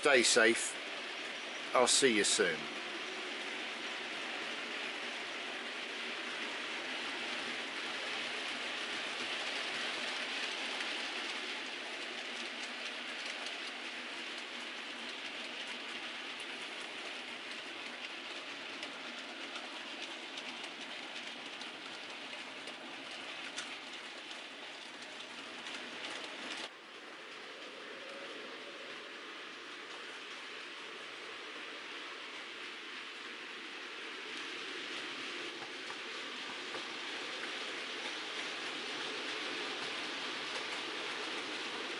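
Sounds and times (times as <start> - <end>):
model train running on track: 0.0 - 41.9
wheels clicking over rail joints: 0.0 - 41.9.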